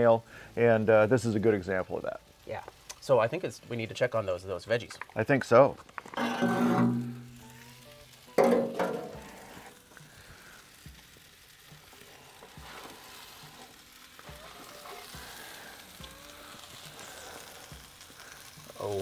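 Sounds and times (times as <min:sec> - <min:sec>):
vegetables sizzling on a tray: 0:00.0 - 0:19.0.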